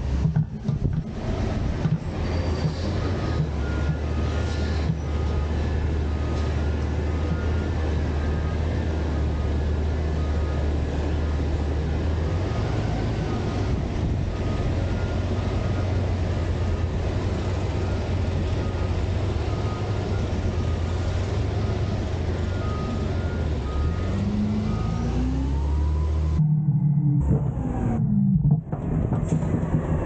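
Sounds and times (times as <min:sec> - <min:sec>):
garbage truck diesel engine: 0:00.0 - 0:30.0.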